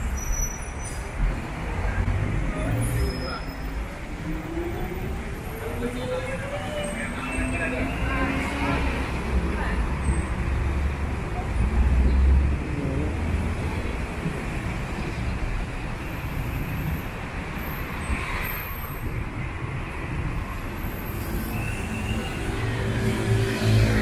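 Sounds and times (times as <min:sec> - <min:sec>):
scooters and cars passing: 0:01.4 - 0:24.0.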